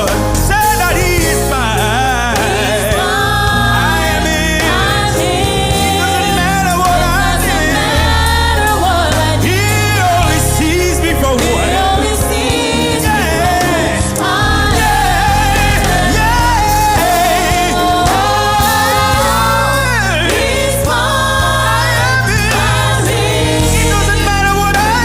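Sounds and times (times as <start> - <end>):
band with bass and keyboard: 0.0 - 25.0
choir singing: 0.0 - 25.0.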